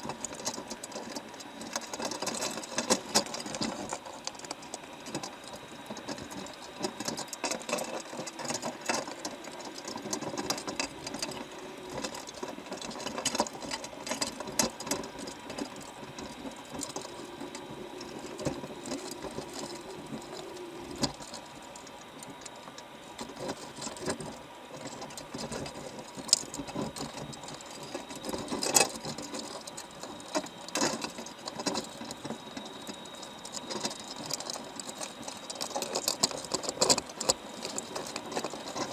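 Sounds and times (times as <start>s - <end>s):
faint steady high whine: 0.0s - 38.9s
underwater crackle of crab clicks: 0.0s - 38.9s.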